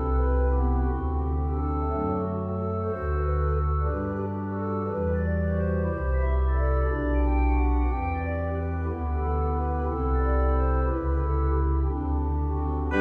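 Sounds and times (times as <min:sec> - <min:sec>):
organ playing slow chords: 0:00.0 - 0:13.0.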